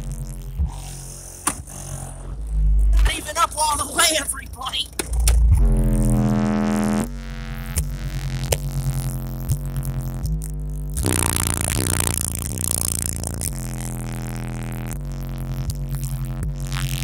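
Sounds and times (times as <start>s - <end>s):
bass-heavy electronic music: 0.0s - 17.0s
subwoofer voice coil rasping: 0.0s - 17.0s.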